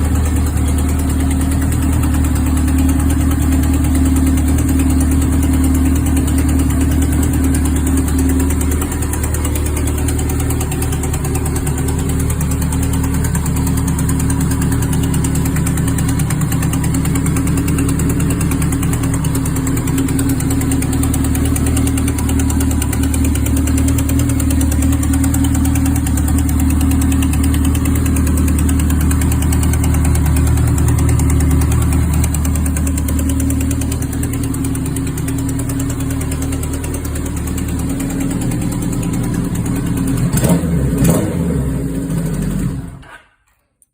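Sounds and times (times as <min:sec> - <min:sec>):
motorcycle engine idling: 0:00.0 - 0:43.2.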